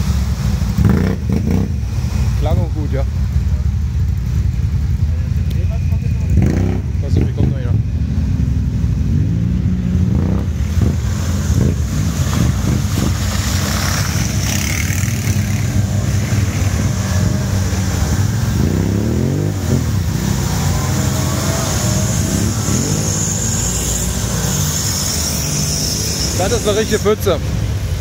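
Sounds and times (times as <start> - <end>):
vehicle driving through muddy water: 0.0 - 28.0.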